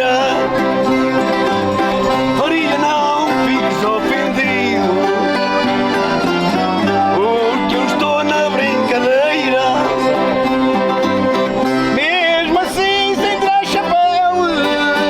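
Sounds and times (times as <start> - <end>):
accordion: 0.0 - 15.0
string instruments playing folk music: 0.0 - 15.0.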